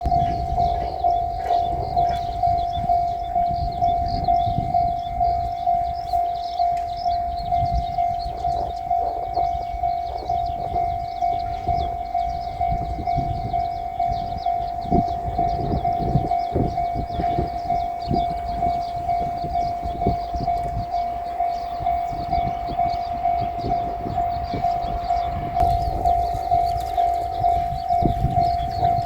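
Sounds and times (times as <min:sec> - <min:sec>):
level-crossing warning bell: 0:00.0 - 0:29.0.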